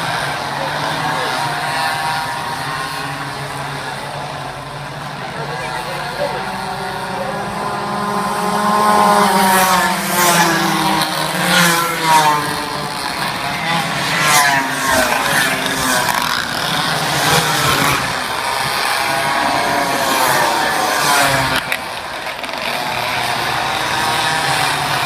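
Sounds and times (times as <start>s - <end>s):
minibike engines revving: 0.0s - 25.0s.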